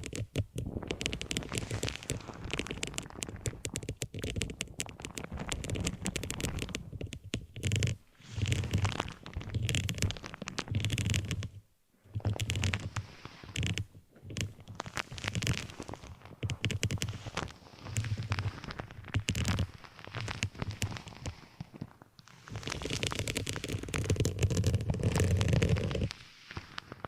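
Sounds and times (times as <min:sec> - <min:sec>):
close scratching and crackling: 0:00.0 - 0:27.0
dense clicks: 0:00.0 - 0:27.0.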